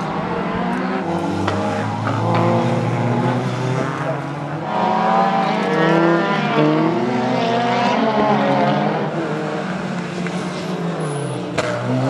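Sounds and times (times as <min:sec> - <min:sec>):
race car engine revving: 0:00.0 - 0:12.0.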